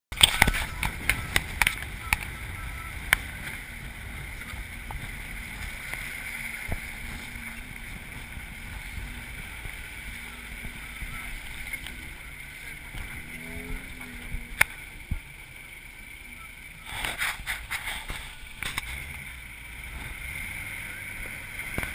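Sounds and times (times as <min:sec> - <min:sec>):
truck engine and road rumble: 0:00.1 - 0:21.9.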